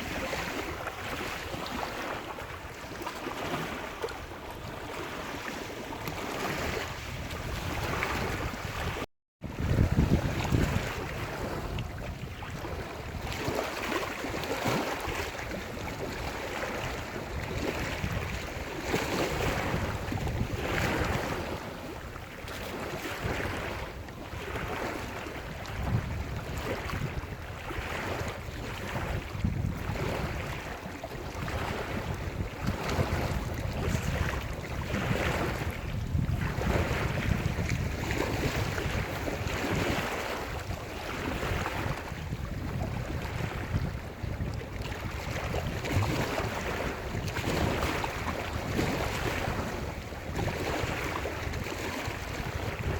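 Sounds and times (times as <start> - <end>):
waves breaking on shore: 0.0 - 52.9
wind on microphone: 0.0 - 52.9.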